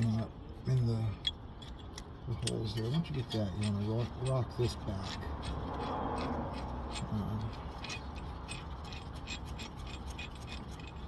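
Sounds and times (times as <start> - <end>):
light metal scraping: 0.0 - 11.0.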